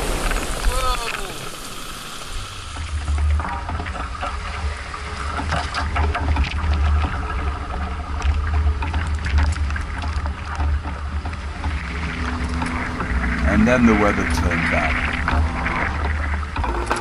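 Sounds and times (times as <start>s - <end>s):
wind and sea rushing: 0.0s - 17.0s.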